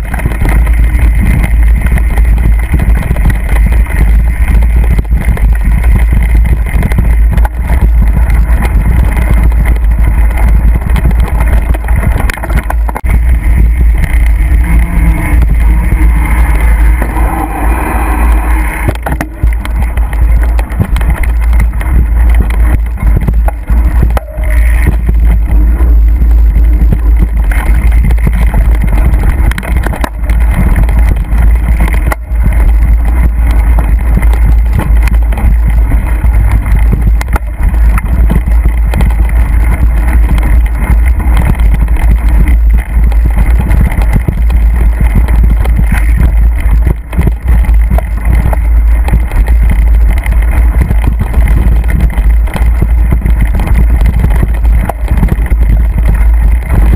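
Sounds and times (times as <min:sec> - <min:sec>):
bike knocks and rattles: 0:00.0 - 0:56.9
wind buffeting microphone: 0:00.0 - 0:56.9.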